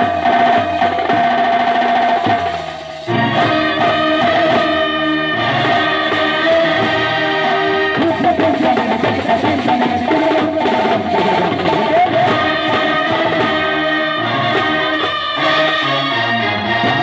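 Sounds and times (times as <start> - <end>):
brass band music: 0.0 - 17.0.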